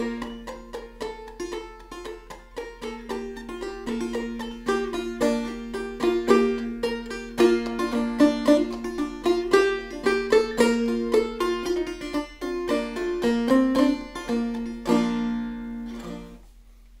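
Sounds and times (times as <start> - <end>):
banjo plucked notes: 0.0 - 16.6.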